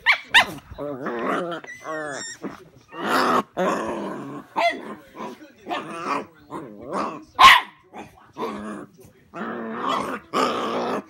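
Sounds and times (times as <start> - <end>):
dogs play-growling and barking: 0.0 - 11.0.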